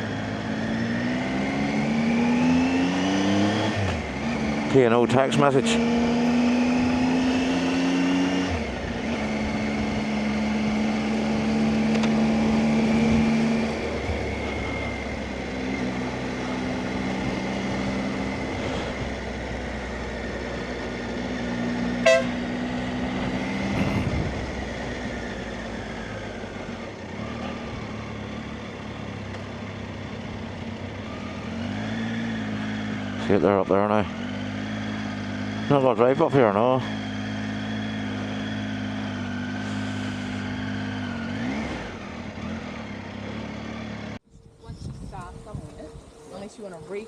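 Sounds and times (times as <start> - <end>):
motorcycle engine revving: 0.0 - 47.0
road and wind noise: 0.0 - 47.0.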